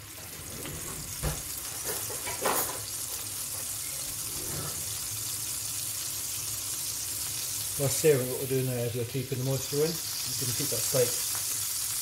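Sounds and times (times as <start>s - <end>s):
steak sizzling in skillet: 0.0s - 12.0s.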